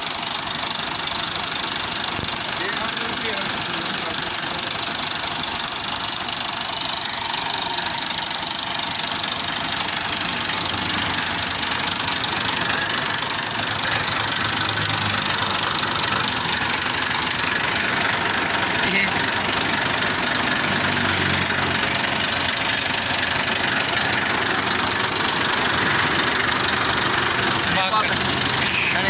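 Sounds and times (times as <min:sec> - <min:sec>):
diesel tractor engine idling: 0:00.0 - 0:29.0.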